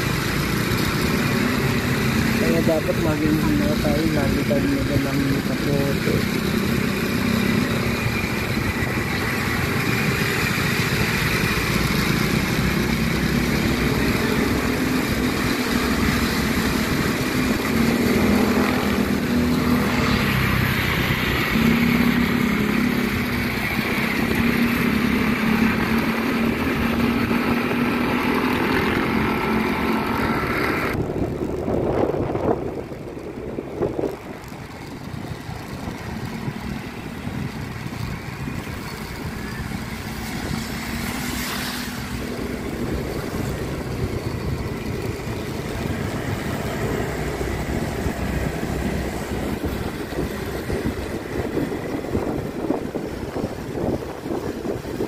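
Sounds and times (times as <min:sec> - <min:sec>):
motorcycle engine running: 0:00.0 - 0:55.0
road noise: 0:00.0 - 0:55.0.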